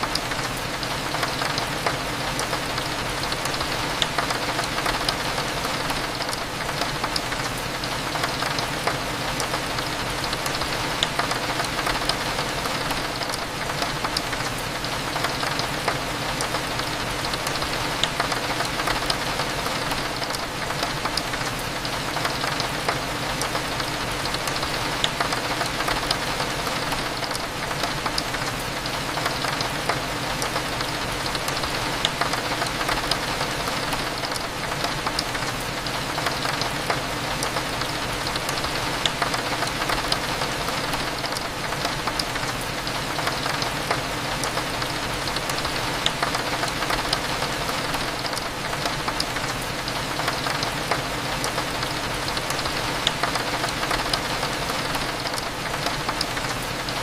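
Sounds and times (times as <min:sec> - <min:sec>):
rain hitting a window: 0:00.0 - 0:57.0.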